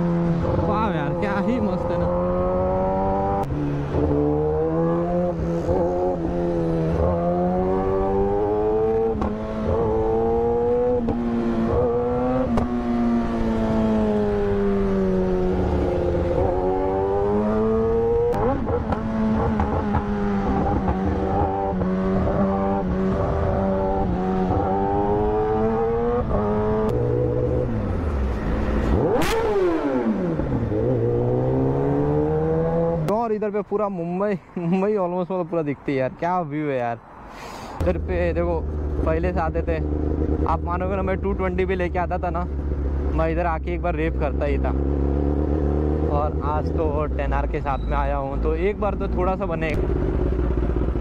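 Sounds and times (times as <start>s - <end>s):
motorcycle engine accelerating: 0.0s - 33.1s, 37.8s - 47.2s, 48.9s - 51.0s.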